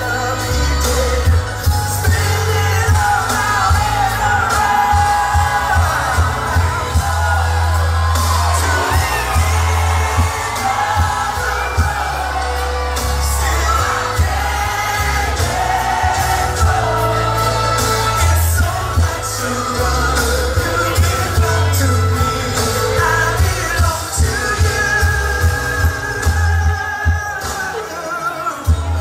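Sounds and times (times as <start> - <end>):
pop song with singing and heavy bass: 0.0 - 29.0
audience whooping and shouting: 2.8 - 29.0.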